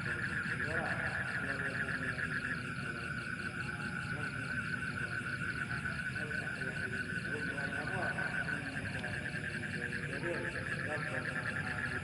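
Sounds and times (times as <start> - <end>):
frogs and insects trilling: 0.0 - 12.0.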